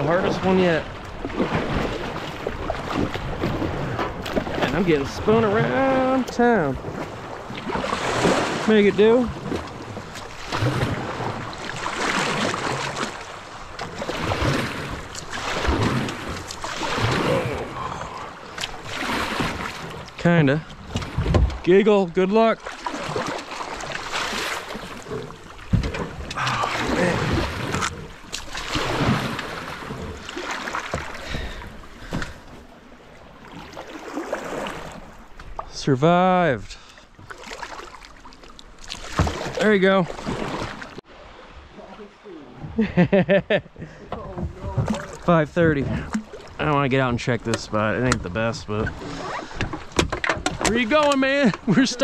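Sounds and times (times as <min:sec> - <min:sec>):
rushing river water: 0:00.0 - 0:42.8, 0:43.7 - 0:52.0.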